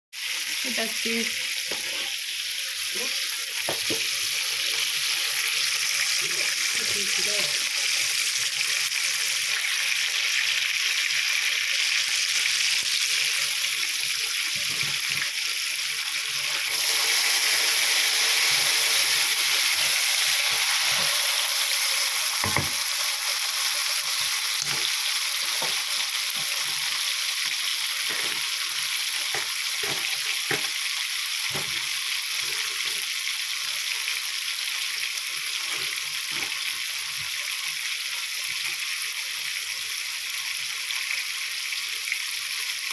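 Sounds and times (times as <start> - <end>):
food sizzling in a hot pan: 0.2 - 42.9.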